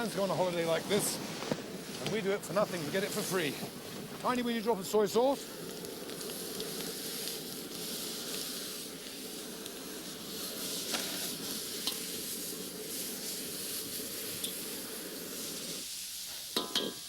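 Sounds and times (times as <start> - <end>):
food sizzling in hot oil: 2.5 - 17.0.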